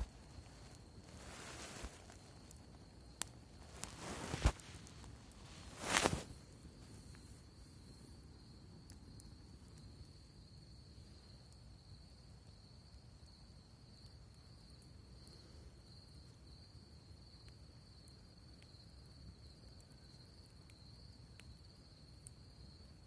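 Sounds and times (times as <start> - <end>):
campfire crackles and pops: 0.0 - 23.0
crickets trilling: 0.0 - 23.0.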